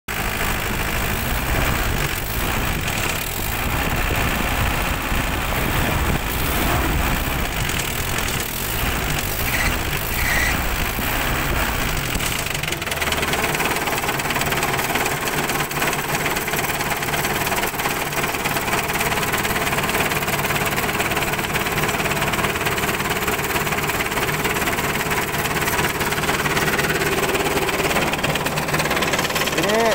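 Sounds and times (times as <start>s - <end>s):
engine idling: 0.1s - 29.9s.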